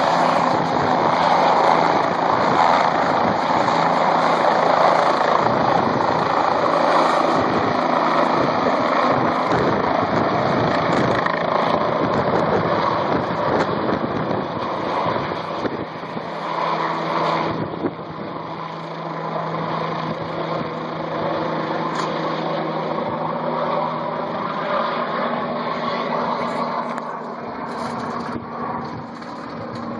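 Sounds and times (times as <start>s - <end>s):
helicopter rotor and engine: 0.0s - 29.9s.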